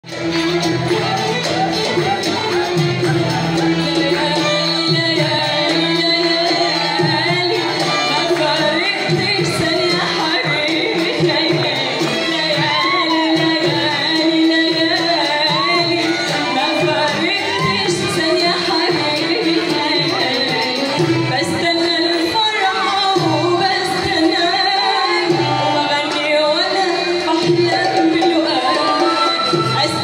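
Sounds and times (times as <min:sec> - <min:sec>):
plucked string instrument: 0:00.0 - 0:30.0
violin: 0:00.0 - 0:30.0
woman singing into microphone: 0:00.1 - 0:30.0.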